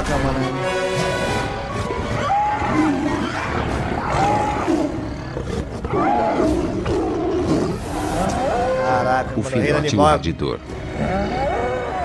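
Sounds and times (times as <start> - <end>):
lions growling: 1.3 - 9.8, 10.7 - 12.0.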